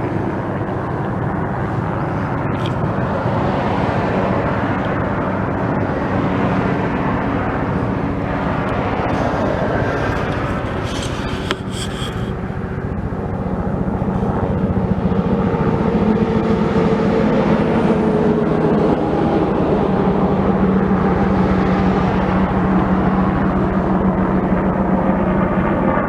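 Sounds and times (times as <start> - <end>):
helicopter engine hum: 0.0 - 26.0
helicopter rotor chop: 0.0 - 26.0.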